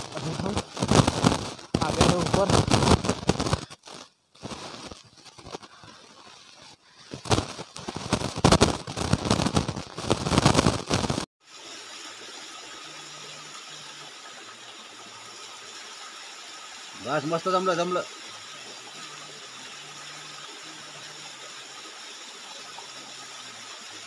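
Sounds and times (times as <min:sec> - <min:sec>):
falling water splashing: 0:00.0 - 0:24.0.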